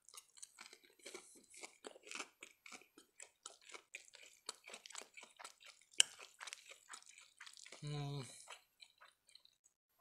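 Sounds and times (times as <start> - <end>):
chewing with wet smacks and crunches: 0.0 - 9.8.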